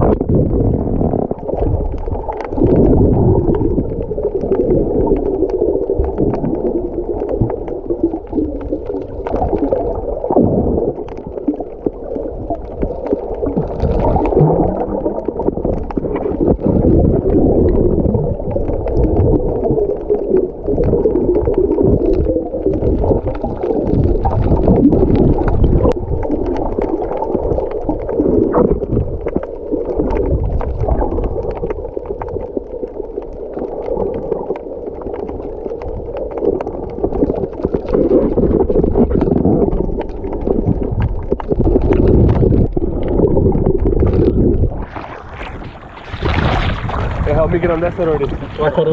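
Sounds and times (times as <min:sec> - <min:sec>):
underwater water rumbling and gurgling: 0:00.0 - 0:48.9.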